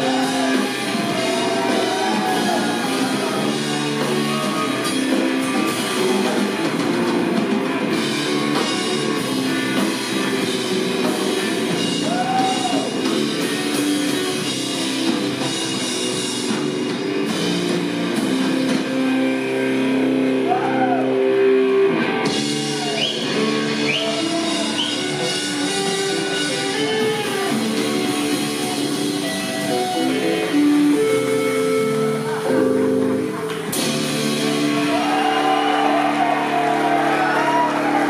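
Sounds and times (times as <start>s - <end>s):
drum kit: 0.0s - 38.0s
electric bass: 0.0s - 38.0s.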